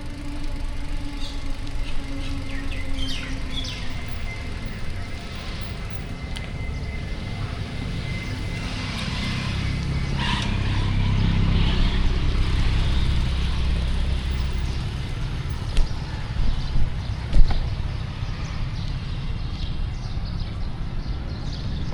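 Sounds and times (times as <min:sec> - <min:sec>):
vehicle engine passing by: 0:00.0 - 0:21.9.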